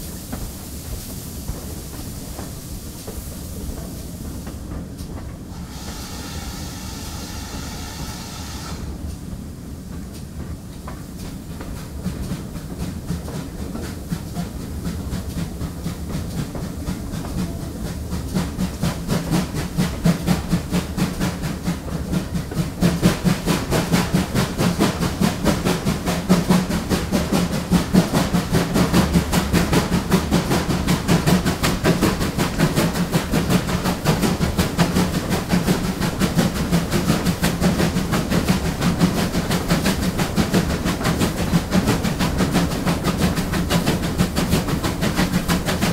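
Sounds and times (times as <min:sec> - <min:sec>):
steam hiss: 0:00.0 - 0:45.9
steam locomotive exhaust beats: 0:00.0 - 0:45.9
wheels rattling on rail: 0:00.0 - 0:45.9.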